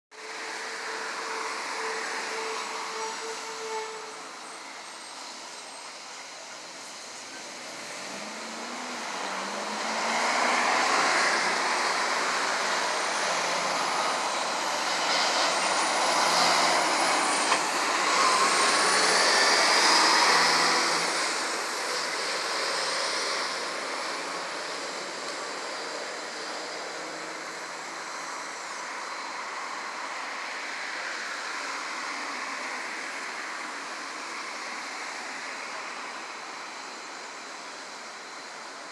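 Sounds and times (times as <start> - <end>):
traffic hum: 0.2 - 38.9
vehicles driving past: 0.2 - 38.9
engines pulling away: 4.4 - 38.9.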